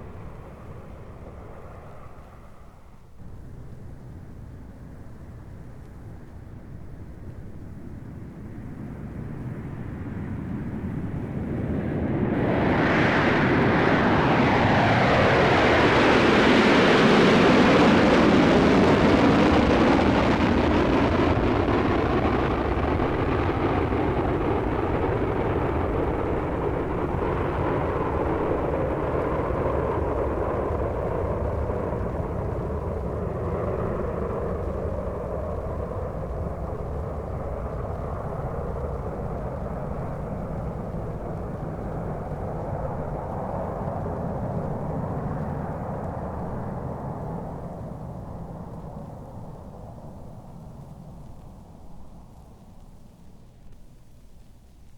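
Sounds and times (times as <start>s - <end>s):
jet aeroplane taking off: 0.0s - 5.3s, 7.6s - 52.6s.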